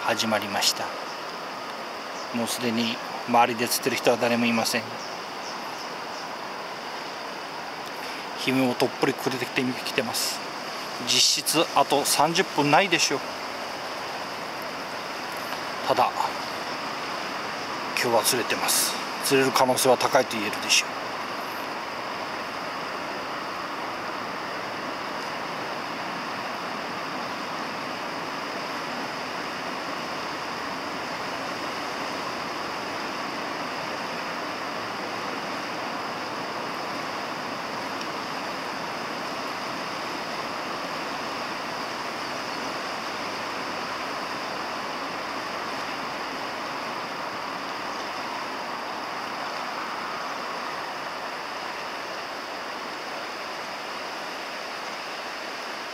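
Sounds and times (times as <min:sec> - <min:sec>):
river current rushing: 0:00.0 - 0:55.9.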